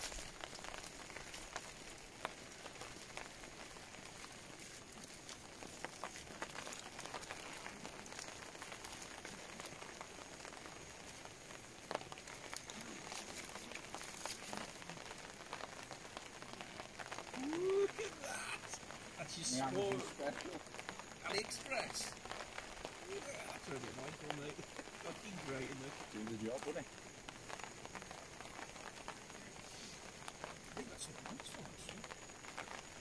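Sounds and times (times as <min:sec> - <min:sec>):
rain pattering: 0:00.0 - 0:33.0
sharp drips and ticks: 0:00.0 - 0:33.0.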